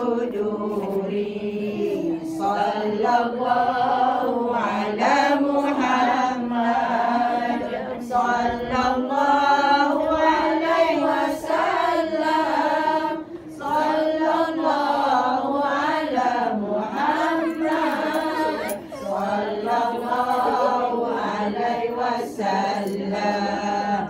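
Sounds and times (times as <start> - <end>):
women singing unaccompanied: 0.0 - 24.0.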